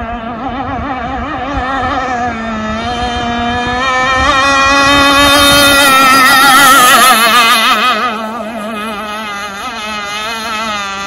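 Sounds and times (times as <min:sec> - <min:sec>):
two-stroke engine high buzz: 0:00.0 - 0:11.0.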